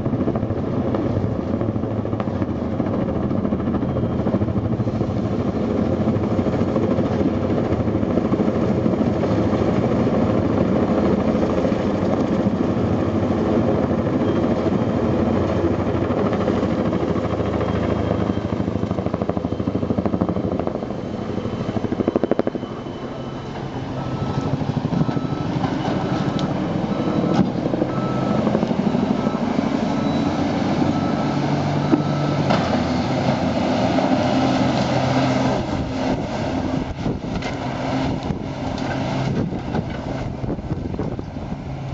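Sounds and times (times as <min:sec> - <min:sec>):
heavy machine engine hum: 0:00.0 - 0:41.9
helicopter rotors thumping: 0:00.0 - 0:41.9
loud engine drone: 0:00.0 - 0:41.9.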